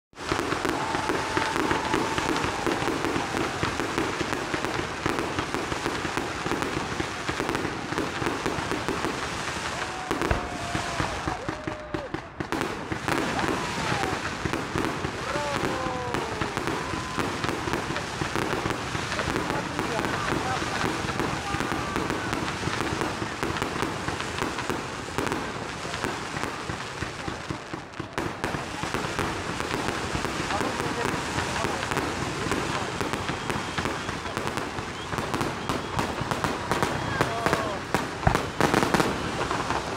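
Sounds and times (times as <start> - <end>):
fireworks crackling: 0.1 - 39.9.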